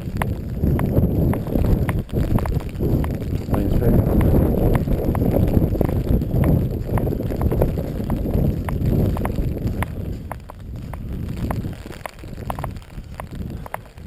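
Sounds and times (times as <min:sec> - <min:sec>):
sharp ticks: 0:00.0 - 0:14.0
wind on microphone: 0:00.0 - 0:14.0.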